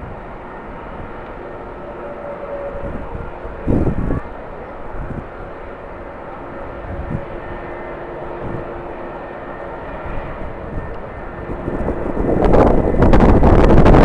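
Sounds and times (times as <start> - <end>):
jet engines humming: 0.0 - 14.0
wind gusts on microphone: 0.0 - 14.0.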